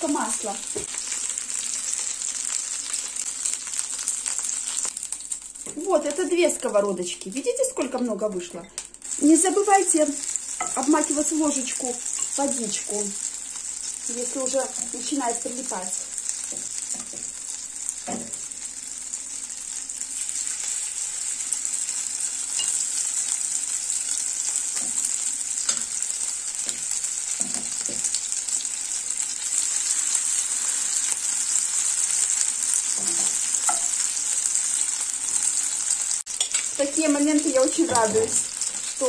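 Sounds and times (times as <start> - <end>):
mixture sizzling in hot oil: 0.0 - 39.0.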